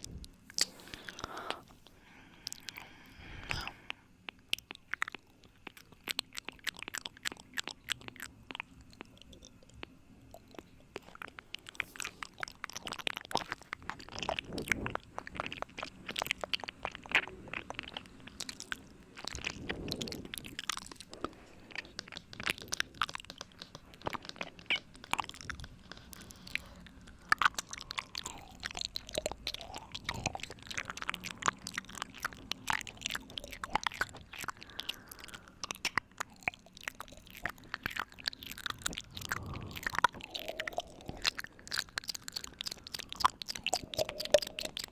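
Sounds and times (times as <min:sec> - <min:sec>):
wet mouth clicks and smacks: 0:00.0 - 0:44.9.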